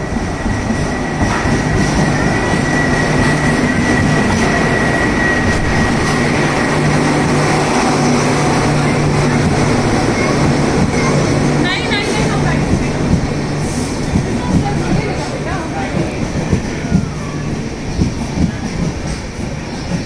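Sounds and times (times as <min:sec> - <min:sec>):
train wheels rushing on rails: 0:00.0 - 0:20.0.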